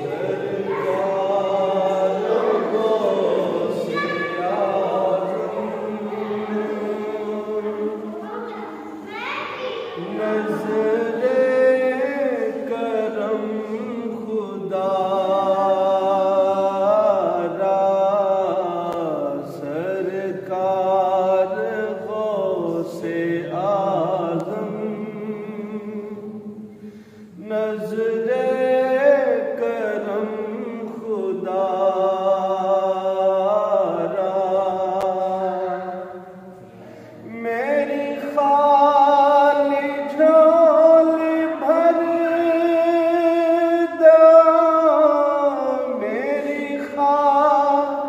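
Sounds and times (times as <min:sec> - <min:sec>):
men chanting: 0:00.0 - 0:09.2, 0:09.8 - 0:26.6, 0:27.3 - 0:48.0.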